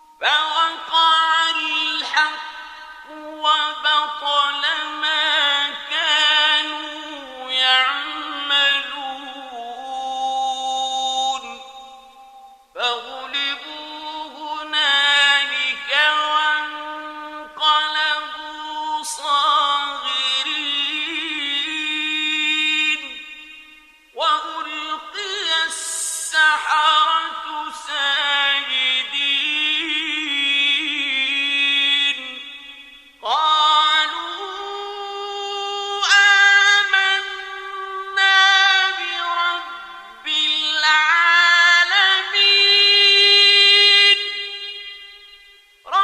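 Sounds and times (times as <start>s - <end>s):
man reciting melodically: 0.0s - 46.0s.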